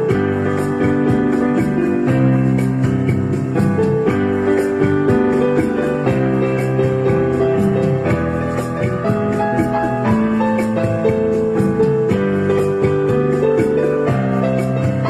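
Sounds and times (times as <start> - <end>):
keyboard melody: 0.0 - 15.0
light percussion beat: 0.0 - 15.0.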